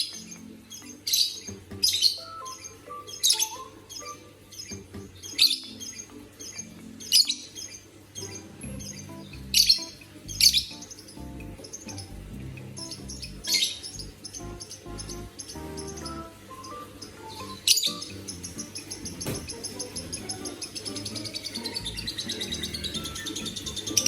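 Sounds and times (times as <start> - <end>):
bird chirping squawks: 0.0 - 24.0.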